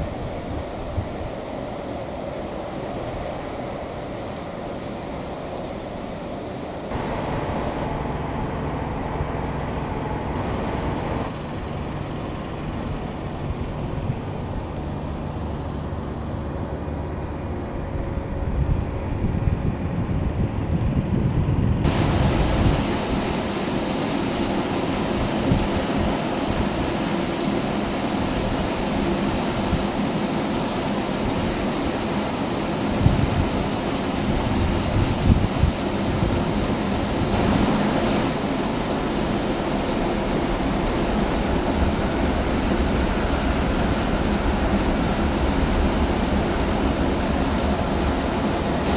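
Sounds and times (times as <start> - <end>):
even rushing noise: 0.0 - 19.8, 21.8 - 48.9
train rumbling past: 0.0 - 21.1, 21.8 - 48.9.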